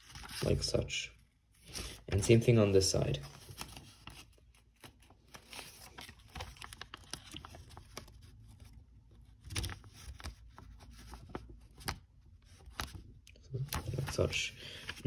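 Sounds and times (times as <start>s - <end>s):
paper being folded and creased: 0.0s - 0.8s, 3.2s - 15.0s.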